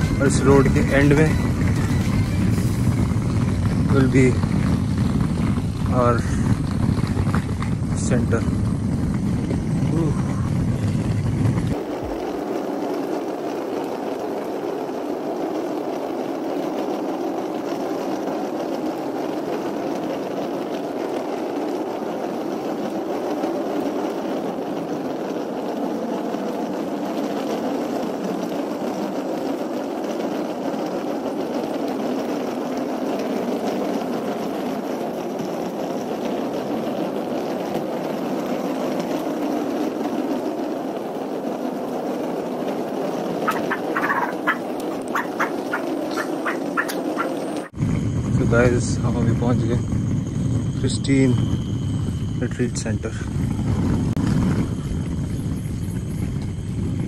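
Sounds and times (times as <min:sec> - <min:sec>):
suitcase wheels rattling on road: 0:00.0 - 0:57.0.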